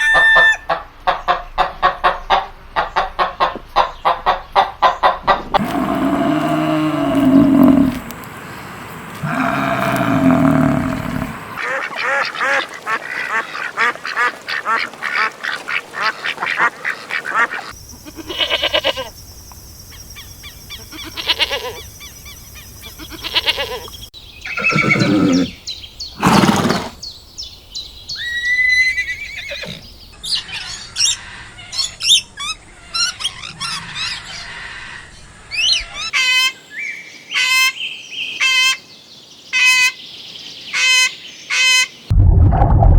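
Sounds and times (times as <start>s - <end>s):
bird calls: 1.1s - 42.1s.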